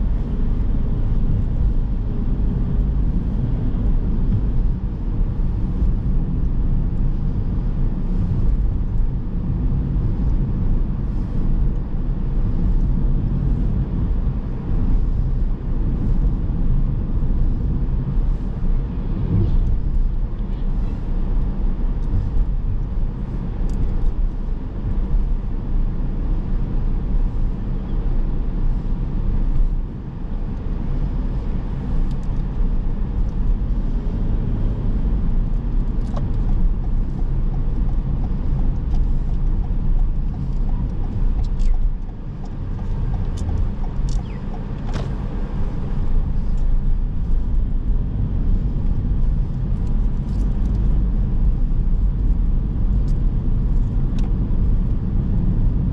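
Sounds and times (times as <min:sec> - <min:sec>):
car road and engine rumble: 0:00.0 - 0:55.9.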